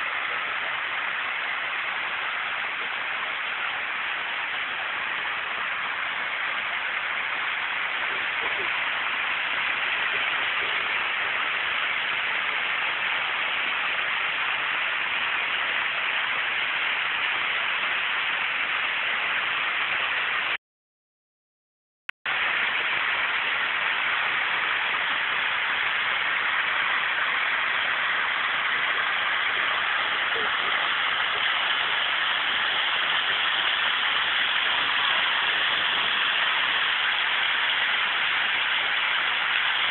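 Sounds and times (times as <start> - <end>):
waterfall rushing: 0.0 - 20.6, 22.3 - 39.9.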